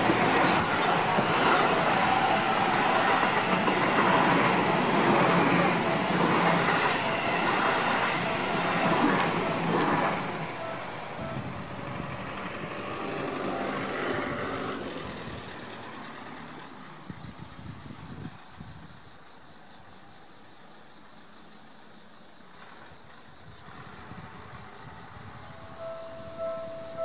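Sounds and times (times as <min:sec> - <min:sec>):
trains rumbling past: 0:00.0 - 0:21.4, 0:22.2 - 0:27.0.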